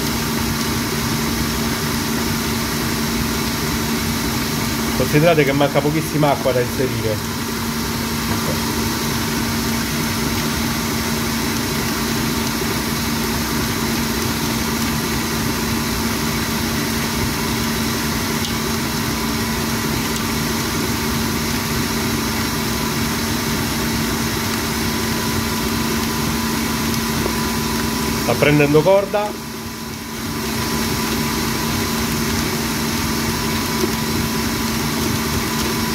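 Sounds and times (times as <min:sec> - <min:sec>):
stand mixer motor droning: 0:00.0 - 0:35.9.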